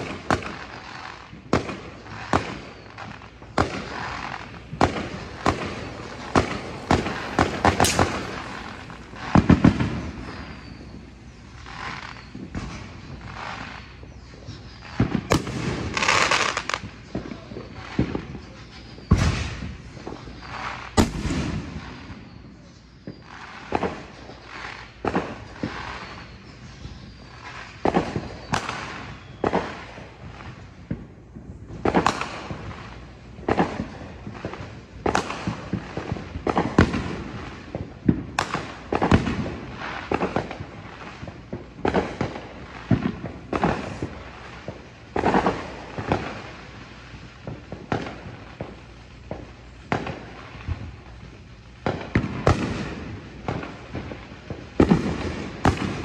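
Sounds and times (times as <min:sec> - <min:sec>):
fireworks exploding: 0:00.0 - 0:14.1, 0:14.8 - 0:22.2, 0:27.1 - 0:56.0.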